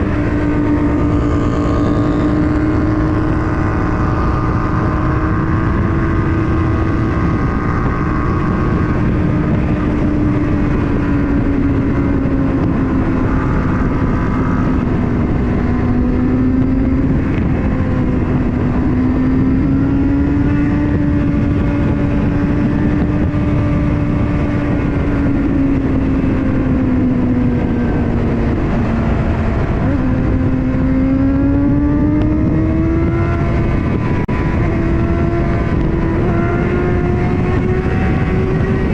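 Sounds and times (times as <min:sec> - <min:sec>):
motorcycle engine running hard: 0:00.0 - 0:38.9
wind noise: 0:00.0 - 0:38.9.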